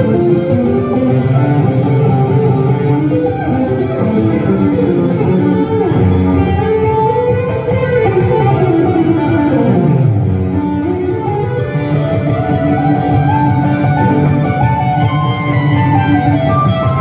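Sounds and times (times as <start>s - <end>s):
electric guitar solo: 0.0s - 17.0s.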